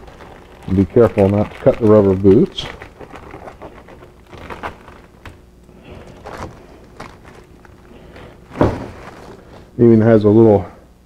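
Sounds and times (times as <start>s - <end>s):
plastic packaging crinkling: 0.0s - 9.8s
handling knocks: 0.7s - 9.7s.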